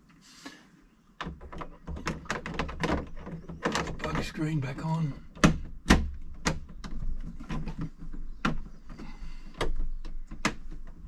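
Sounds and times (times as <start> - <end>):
plastic clicks and knocks: 1.2 - 11.0.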